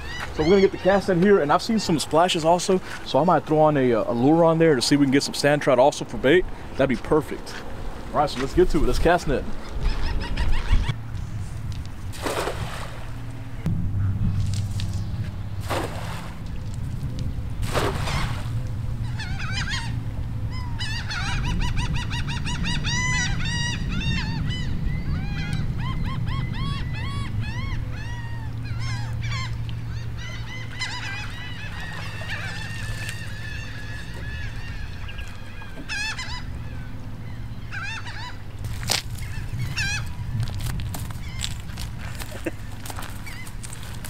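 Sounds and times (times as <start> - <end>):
gulls calling: 0.0 - 11.4, 12.2 - 44.0
low rumble of wind or water: 0.0 - 44.0.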